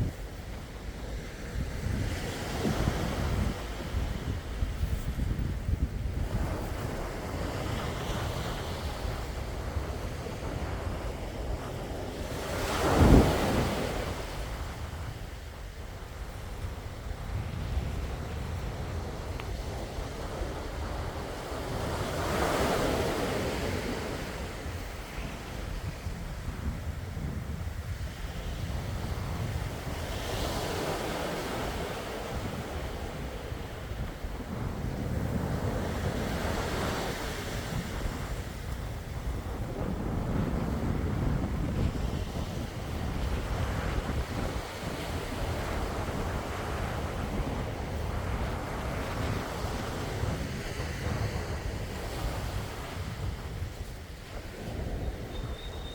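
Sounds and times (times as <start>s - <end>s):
sea waves washing on shore: 0.0s - 55.9s
wind rumbling on microphone: 0.0s - 55.9s.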